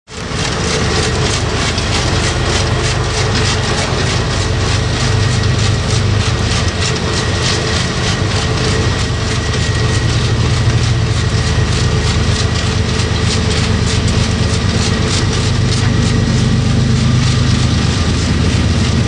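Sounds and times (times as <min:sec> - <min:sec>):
freight train rumble: 0:00.1 - 0:19.0
train wheels clicking over rail joints: 0:00.1 - 0:19.0.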